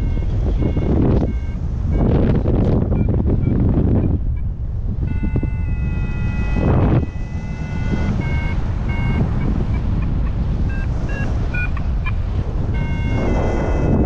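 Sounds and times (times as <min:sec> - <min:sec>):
short beeps at changing pitches: 0:00.0 - 0:02.2, 0:02.9 - 0:14.0
held electronic tone: 0:00.0 - 0:14.0
wind noise on microphone: 0:00.0 - 0:14.0.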